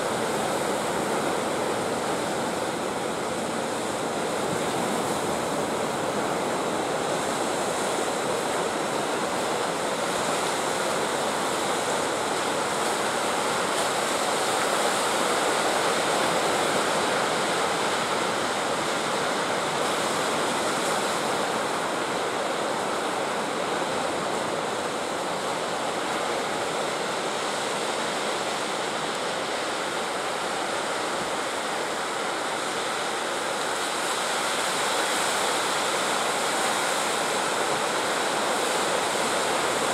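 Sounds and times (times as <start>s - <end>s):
sea surf breaking on beach: 0.0s - 39.9s.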